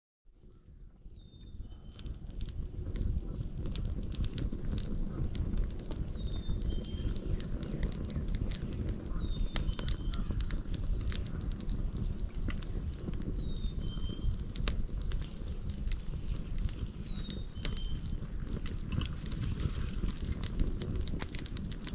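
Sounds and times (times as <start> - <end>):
wood fire crackling: 0.4 - 21.9.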